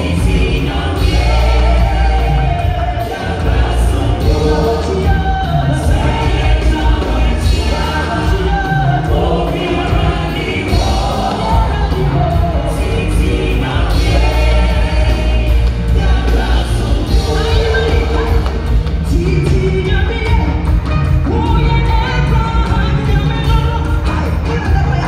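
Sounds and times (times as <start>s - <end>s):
gospel singers with band: 0.0s - 25.0s
steady bass: 0.0s - 25.0s.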